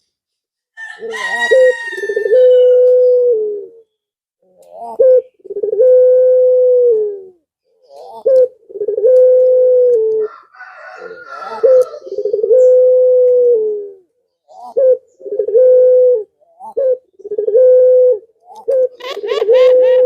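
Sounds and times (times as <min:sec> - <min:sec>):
dove cooing: 0:00.8 - 0:03.9, 0:04.6 - 0:20.0.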